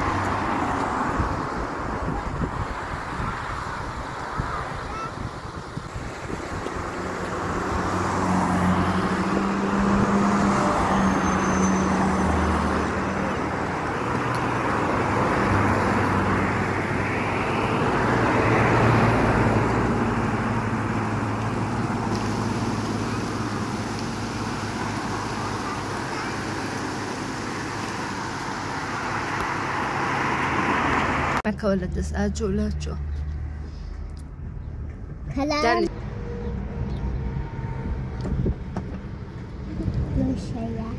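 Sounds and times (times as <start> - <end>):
tyre noise on road: 0.0 - 31.5, 32.5 - 40.9
car engine hum: 0.0 - 40.9.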